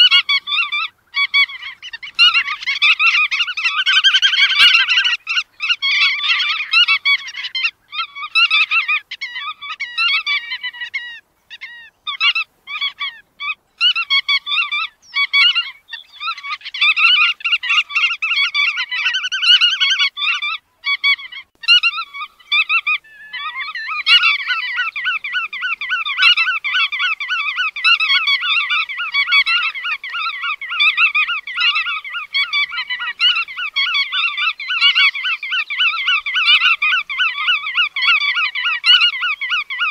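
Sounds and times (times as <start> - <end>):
flock of birds calling: 0.0 - 39.9.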